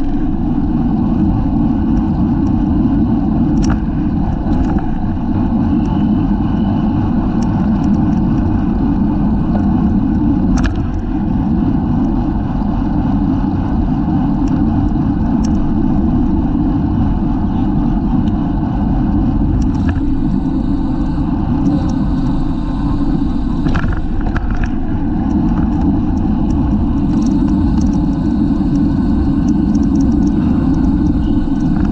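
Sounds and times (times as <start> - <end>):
road noise: 0.0 - 31.9
wind buffeting microphone: 0.0 - 31.9.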